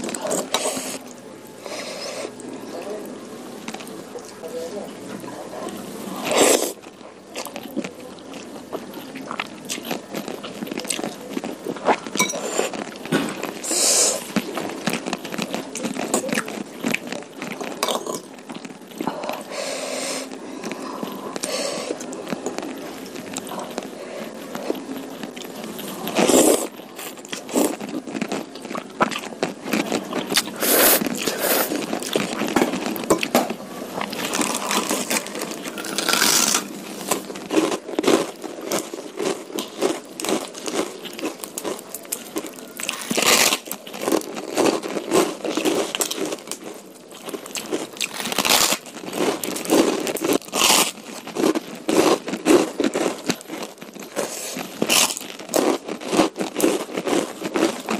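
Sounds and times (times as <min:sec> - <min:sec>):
wet chewing: 0:05.5 - 0:19.6, 0:20.2 - 0:57.9.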